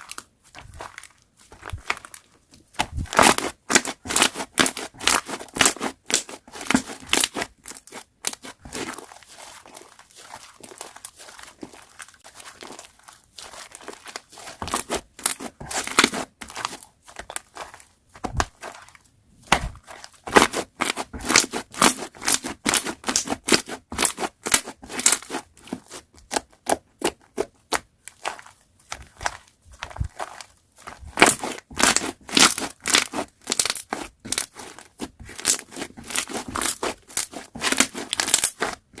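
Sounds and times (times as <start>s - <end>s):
slime crackling and popping: 0.0s - 18.8s, 19.4s - 25.4s, 26.2s - 39.0s.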